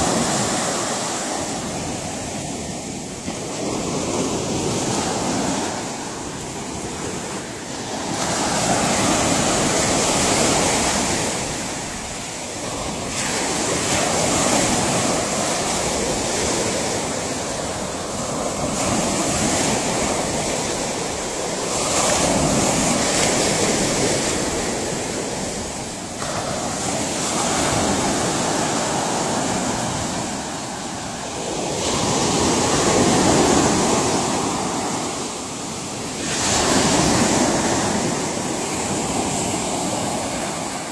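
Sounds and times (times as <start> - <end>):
waves breaking on shore: 0.0 - 40.9.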